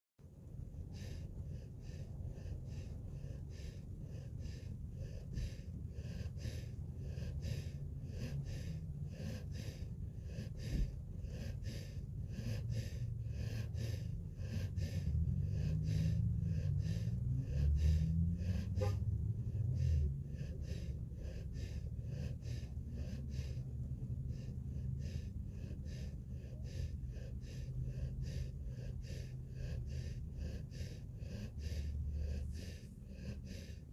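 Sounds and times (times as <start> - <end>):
low rumble: 0.2 - 33.9
puppy snoring: 0.4 - 33.9.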